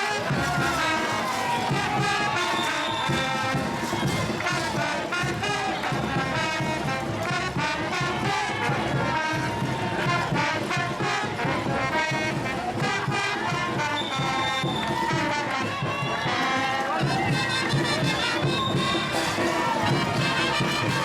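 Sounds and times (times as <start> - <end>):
steady drum beat: 0.0 - 16.2, 16.9 - 21.0
brass band playing: 0.0 - 21.0.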